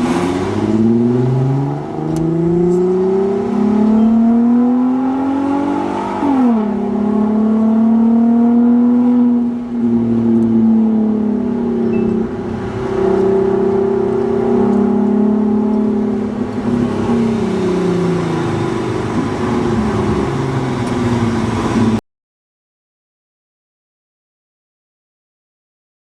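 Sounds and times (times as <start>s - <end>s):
car engine revving through exhaust: 0.0s - 22.0s.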